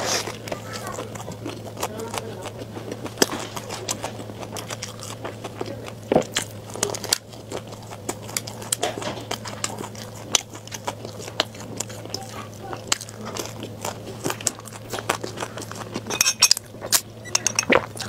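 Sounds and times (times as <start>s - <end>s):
chewing flaky pastry: 0.0s - 18.0s
low steady hum: 0.0s - 18.0s.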